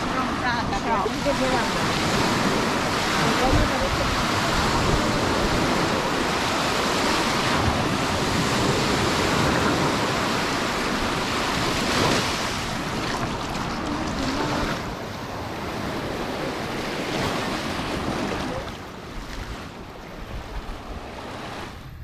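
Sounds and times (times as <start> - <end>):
sea surf washing onto beach: 0.0 - 22.0
wind buffeting microphone: 0.0 - 22.0.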